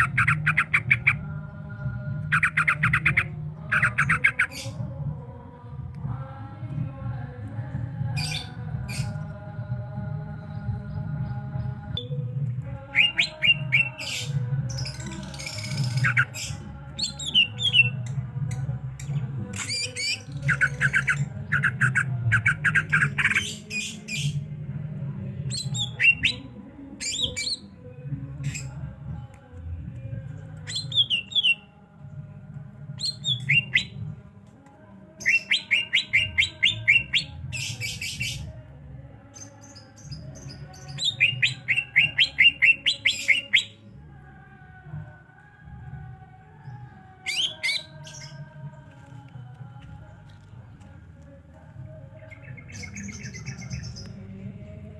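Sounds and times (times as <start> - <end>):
bird chirping song: 0.0 - 5.5, 6.1 - 44.3, 46.3 - 54.9.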